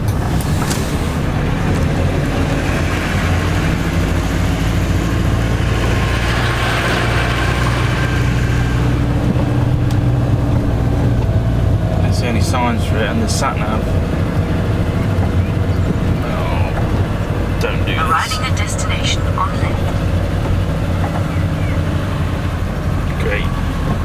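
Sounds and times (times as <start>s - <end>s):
van engine and road drone: 0.0s - 24.0s.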